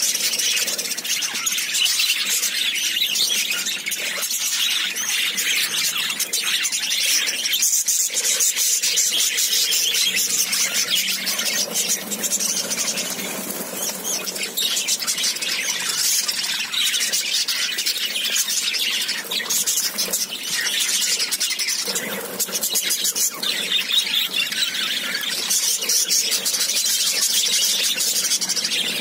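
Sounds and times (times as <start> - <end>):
budgerigars chattering: 0.0 - 29.0.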